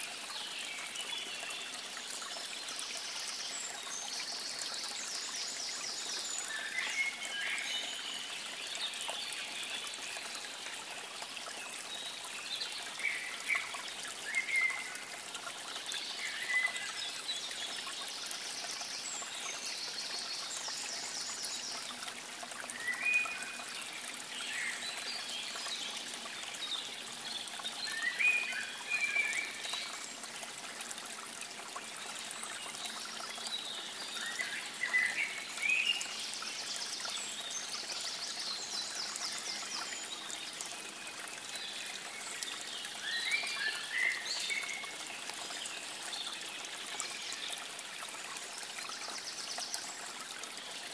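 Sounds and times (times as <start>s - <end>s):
stream trickling: 0.0s - 50.9s.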